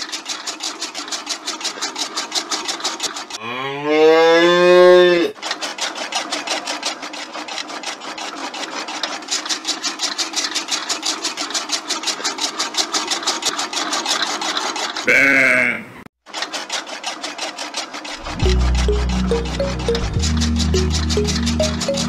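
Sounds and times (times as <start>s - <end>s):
chaff cutter chopping grass: 0.0s - 3.5s, 4.2s - 15.1s, 16.3s - 22.0s.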